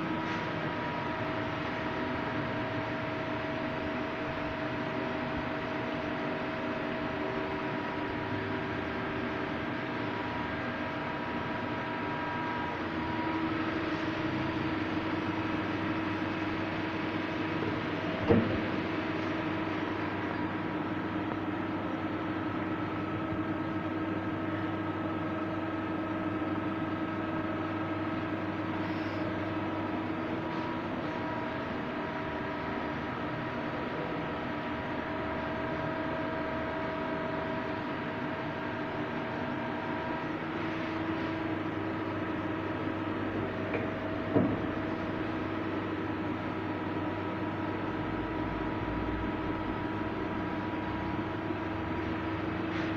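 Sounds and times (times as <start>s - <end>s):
lathe mechanical hum: 0.0s - 52.9s.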